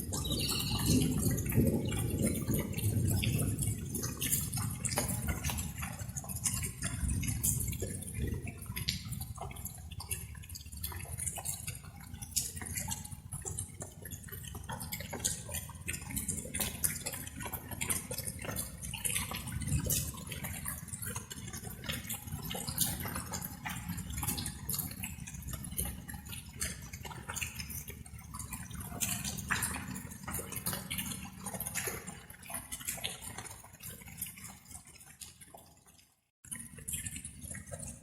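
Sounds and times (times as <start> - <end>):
raindrops dripping and pattering: 0.0 - 38.0.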